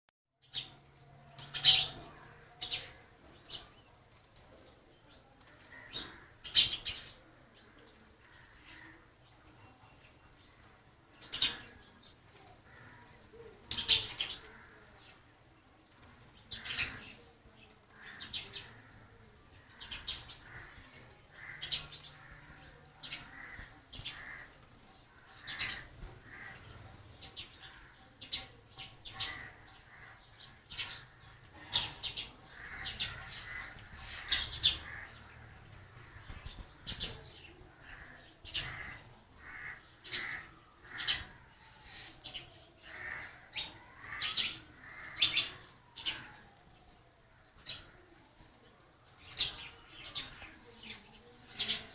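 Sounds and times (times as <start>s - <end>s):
birds chirping: 0.4s - 51.9s.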